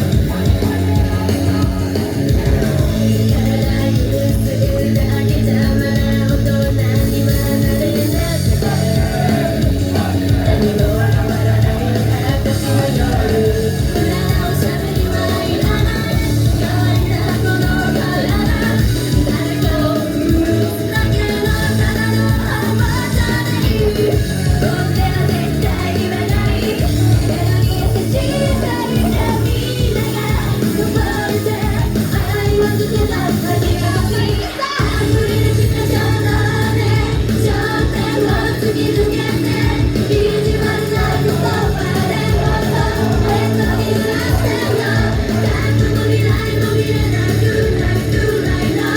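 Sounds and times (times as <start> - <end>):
backing track with heavy drum beat: 0.0 - 48.9
group singing live: 0.0 - 48.9.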